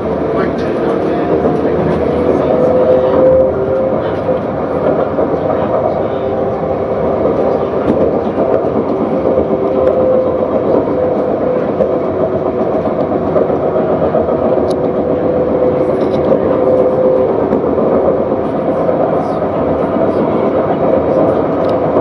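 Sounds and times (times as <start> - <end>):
tram rolling rumble: 0.0 - 22.0
tram whine: 0.0 - 22.0.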